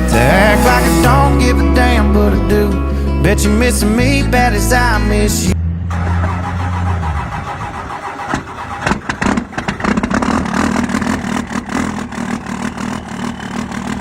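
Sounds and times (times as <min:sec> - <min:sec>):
diesel truck engine starting: 0:00.0 - 0:14.0.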